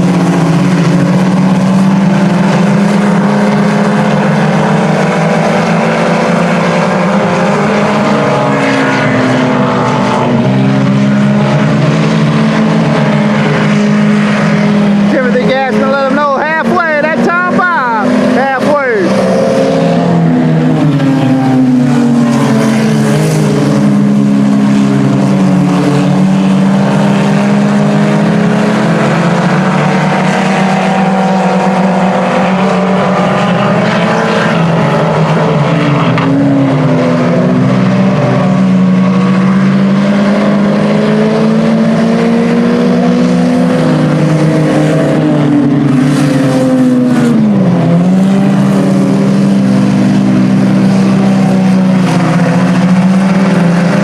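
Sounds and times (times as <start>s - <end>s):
race car engines running hard: 0.0s - 54.0s.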